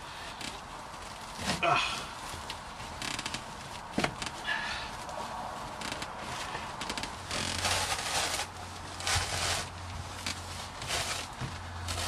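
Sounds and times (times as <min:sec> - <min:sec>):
carpet rustling and scraping: 0:00.1 - 0:12.0.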